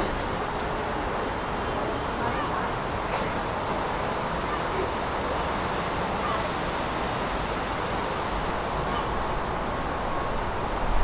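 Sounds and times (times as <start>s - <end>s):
city ambience noise: 0.0s - 11.0s.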